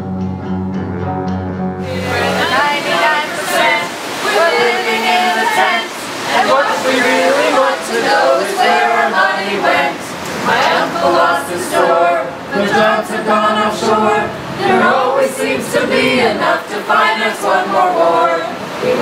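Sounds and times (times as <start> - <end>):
group singing unaccompanied: 1.8 - 19.0.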